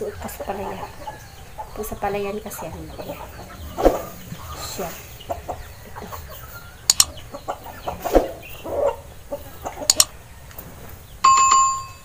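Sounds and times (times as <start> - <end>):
hens clucking: 0.0 - 11.2.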